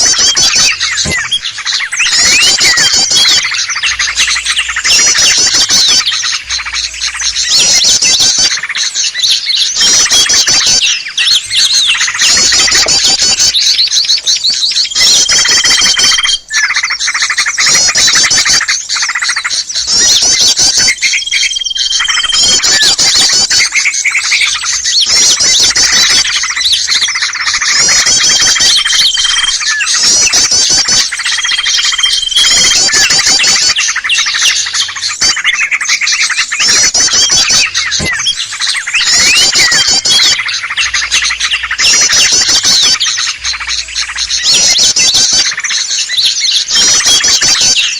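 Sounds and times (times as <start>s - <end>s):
songbirds chirping and trilling: 0.0s - 47.9s.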